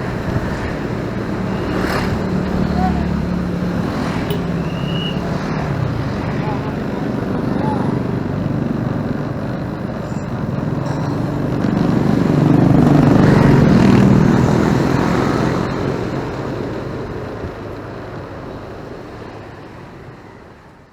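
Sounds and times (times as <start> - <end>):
motorcycle engine running: 0.0 - 20.9
road noise: 0.0 - 20.9
traffic: 0.0 - 20.9.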